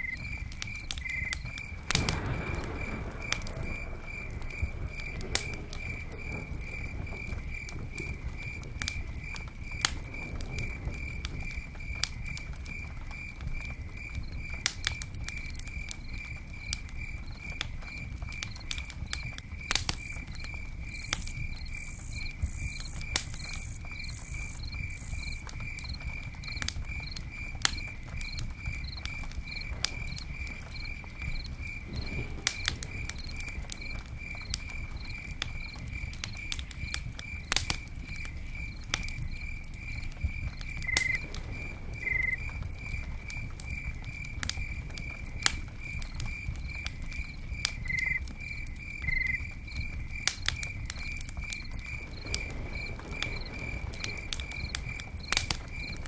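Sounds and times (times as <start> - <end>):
campfire crackling and popping: 0.0 - 56.0
cricket chirping: 0.0 - 56.0.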